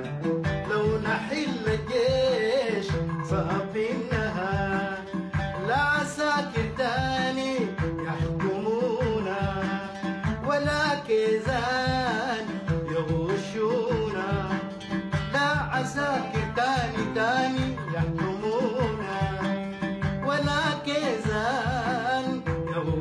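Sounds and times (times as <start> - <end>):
man singing: 0.0 - 23.0
oud plucking: 0.0 - 23.0.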